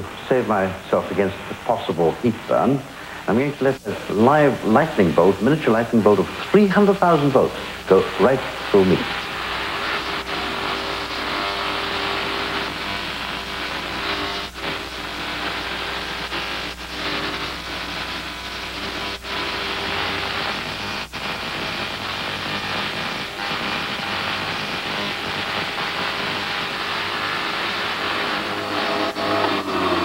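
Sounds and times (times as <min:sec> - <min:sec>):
tesla coil crackling buzz: 0:00.0 - 0:30.0.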